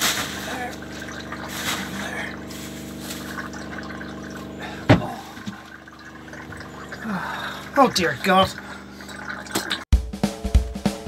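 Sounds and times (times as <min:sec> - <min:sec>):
motor humming: 0:00.0 - 0:09.8
water trickling: 0:00.0 - 0:09.9.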